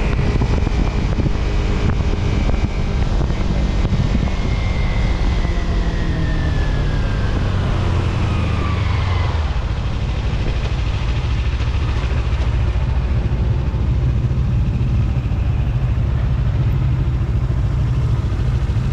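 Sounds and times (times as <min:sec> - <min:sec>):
vehicle engine rumbling: 0:00.0 - 0:18.9.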